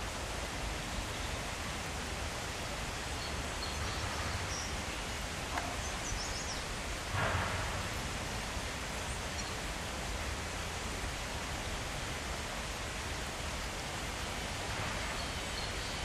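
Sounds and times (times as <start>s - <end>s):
rustling leaves: 0.0s - 16.0s
wind: 0.0s - 16.0s.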